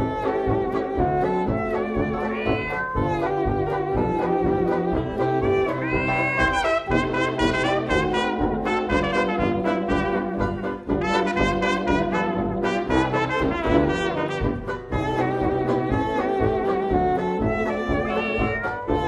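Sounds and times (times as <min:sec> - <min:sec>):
hot jazz band playing: 0:00.0 - 0:19.0
trumpets and trombones chords: 0:00.0 - 0:19.0.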